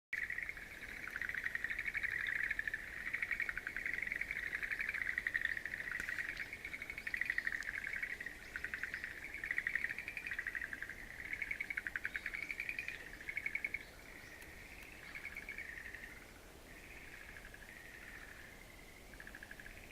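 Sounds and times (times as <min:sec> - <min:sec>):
frogs trilling: 0:00.2 - 0:19.9.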